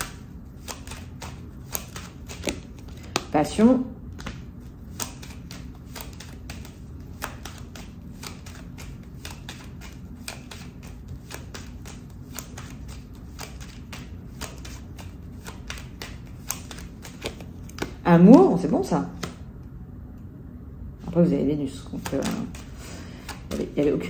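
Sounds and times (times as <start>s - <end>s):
cards being shuffled: 0.0s - 3.4s, 4.1s - 18.0s, 21.9s - 24.0s.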